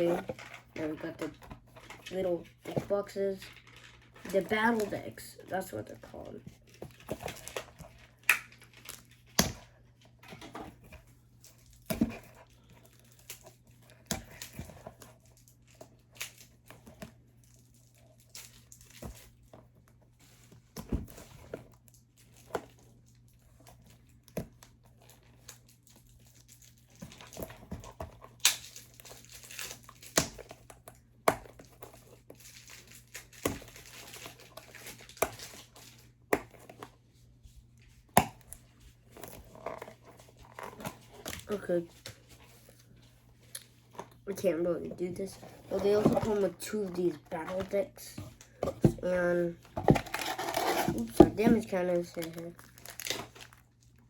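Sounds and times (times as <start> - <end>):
packaging crinkling and rustling: 5.8 - 37.0, 37.6 - 54.0.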